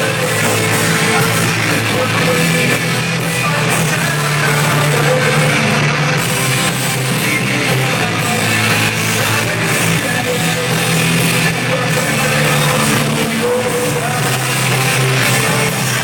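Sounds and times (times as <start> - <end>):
bass guitar: 0.0 - 16.0
distorted electric guitars: 0.0 - 16.0
drum kit: 0.0 - 16.0
rock band playing loud: 0.0 - 16.0.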